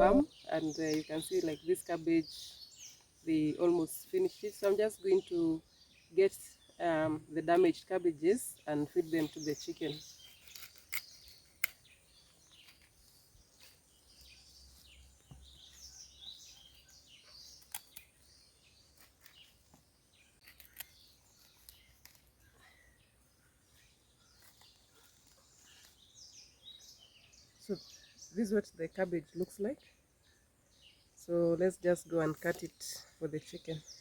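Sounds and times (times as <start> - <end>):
birds chirping faintly: 0.0 - 34.0.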